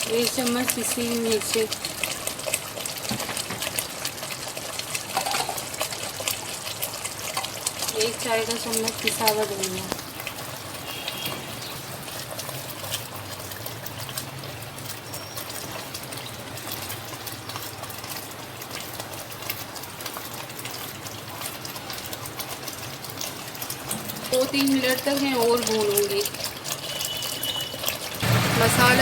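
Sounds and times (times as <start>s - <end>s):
masala sizzling in hot oil: 0.0s - 29.0s.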